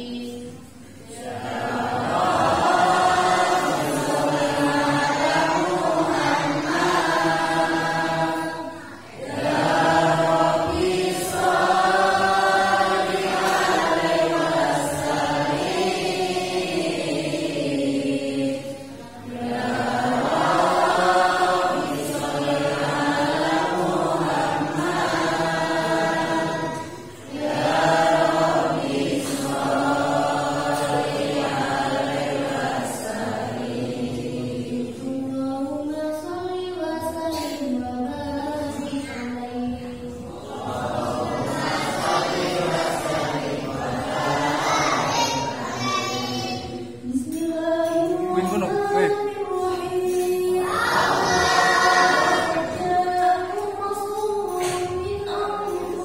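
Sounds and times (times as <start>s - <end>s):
girls chanting in unison: 0.0s - 56.0s.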